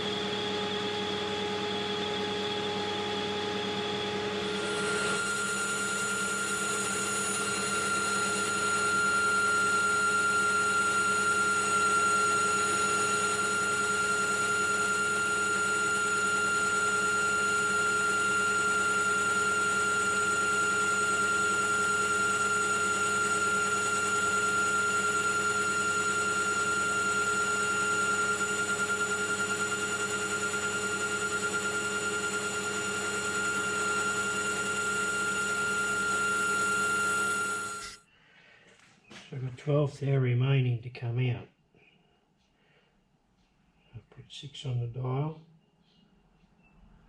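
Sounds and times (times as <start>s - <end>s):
lathe drive hum: 0.0s - 38.0s
metal lathe high whine: 0.0s - 38.0s.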